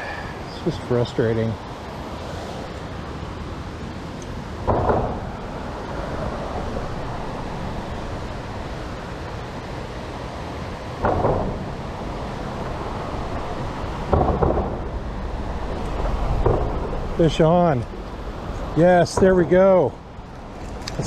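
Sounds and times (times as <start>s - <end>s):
creek water flowing: 0.0s - 14.1s, 14.7s - 21.0s.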